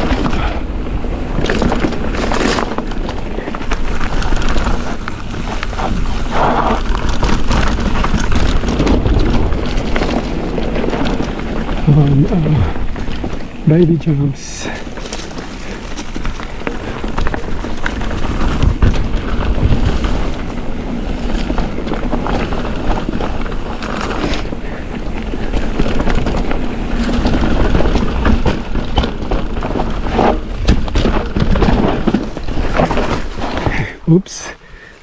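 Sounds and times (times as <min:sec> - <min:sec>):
bike knocks and rattles: 0:00.0 - 0:33.9
bike tyre noise: 0:00.0 - 0:35.0
wind rush on microphone: 0:00.0 - 0:35.0.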